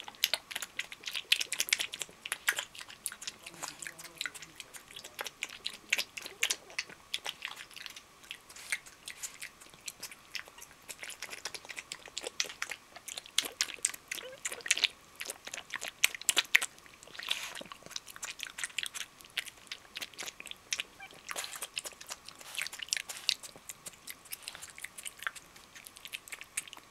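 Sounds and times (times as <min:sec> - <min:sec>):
pig chewing wet food: 0:00.0 - 0:26.9.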